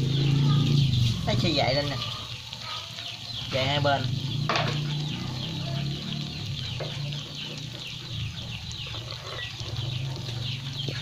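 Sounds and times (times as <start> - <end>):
batter deep-frying in oil: 0.0 - 11.0
birds chirping: 0.0 - 11.0.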